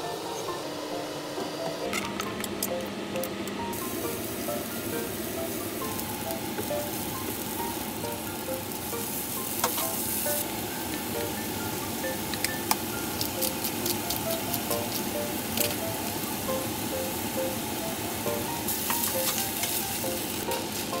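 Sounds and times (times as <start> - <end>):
food sizzling in a hot pan: 3.7 - 21.0.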